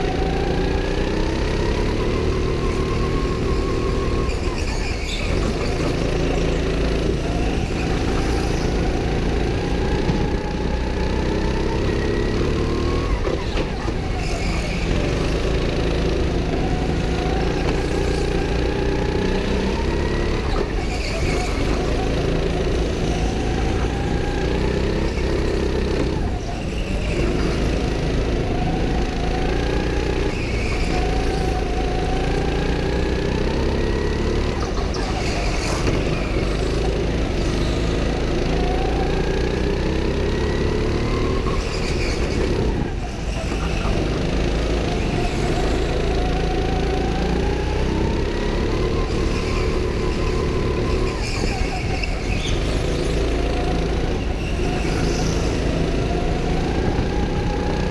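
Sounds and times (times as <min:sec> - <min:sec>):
go-kart engine revving: 0:00.0 - 0:57.9.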